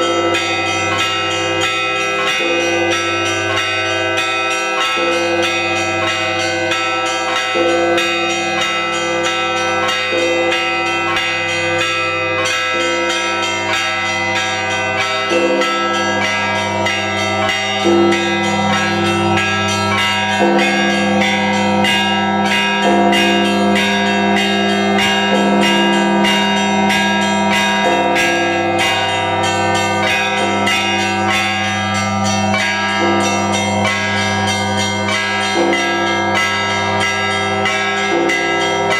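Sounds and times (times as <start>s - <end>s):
deep bells humming: 0.0s - 38.9s
small bells struck rapidly: 0.0s - 38.9s.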